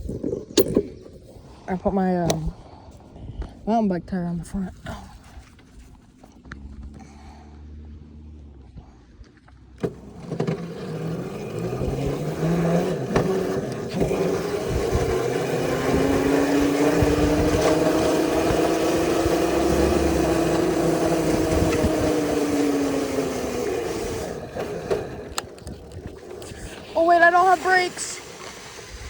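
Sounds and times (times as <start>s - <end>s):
bicycle tire and wind noise: 0.0s - 3.7s, 4.9s - 29.0s
tire hum: 0.0s - 29.0s.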